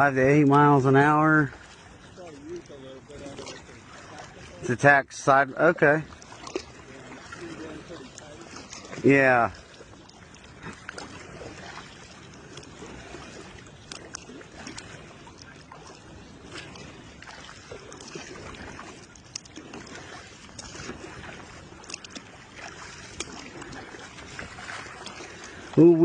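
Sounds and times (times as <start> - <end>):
water lapping against kayak hull: 0.0 - 26.0.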